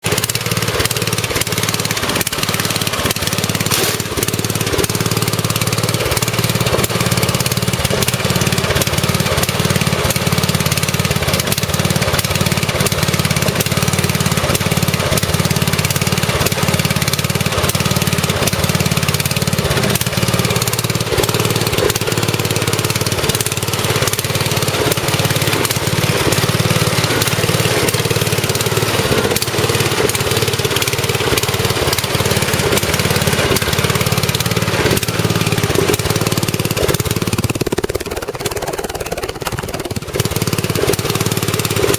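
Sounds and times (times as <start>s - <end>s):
riding tractor engine idling: 0.0s - 41.9s.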